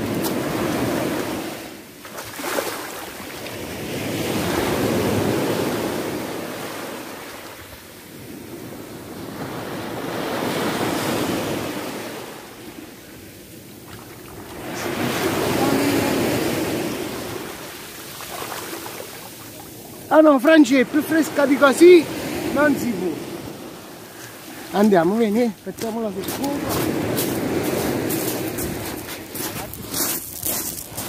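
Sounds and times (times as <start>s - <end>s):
sea waves washing on shore: 0.0s - 31.0s.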